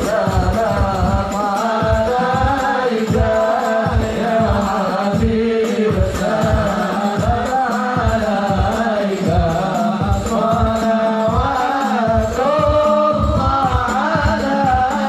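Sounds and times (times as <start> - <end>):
group singing a hymn in unison: 0.0 - 15.0.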